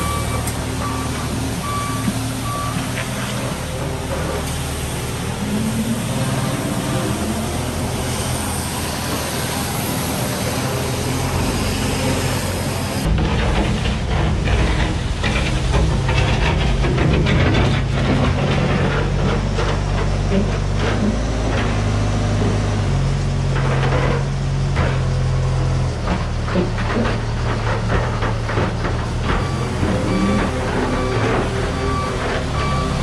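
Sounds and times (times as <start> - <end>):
large engine running: 0.0 - 33.0.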